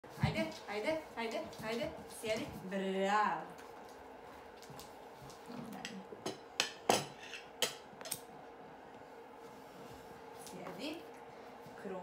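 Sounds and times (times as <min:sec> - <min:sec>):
faint steady hum: 0:00.1 - 0:12.0.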